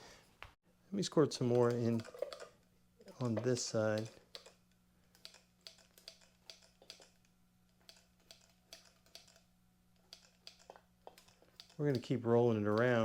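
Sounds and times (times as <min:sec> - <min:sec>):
faint irregular clicks and taps: 0:01.5 - 0:09.4, 0:10.0 - 0:13.0.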